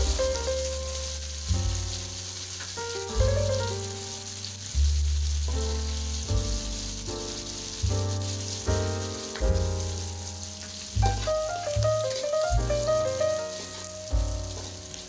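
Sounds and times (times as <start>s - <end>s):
background music with bass: 0.0s - 15.0s
food sizzling in oil: 0.0s - 15.0s.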